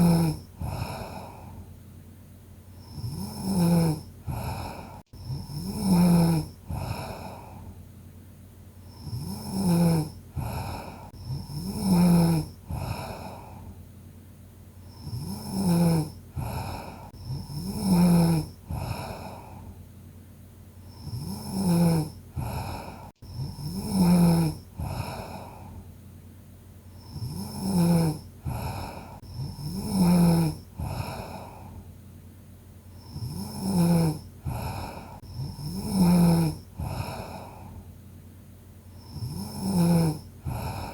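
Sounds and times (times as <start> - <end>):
person snoring: 0.0 - 1.7, 2.7 - 7.8, 8.8 - 13.8, 14.8 - 19.8, 20.8 - 25.9, 26.9 - 31.9, 32.9 - 37.9, 38.9 - 40.9
quiet breathing: 0.0 - 8.1, 8.7 - 14.2, 14.8 - 20.0, 20.7 - 40.9.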